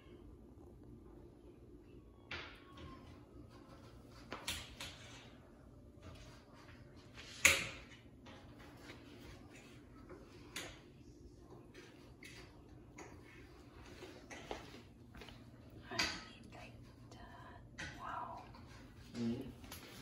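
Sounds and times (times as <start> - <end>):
faint steady background noise: 0.0 - 20.0.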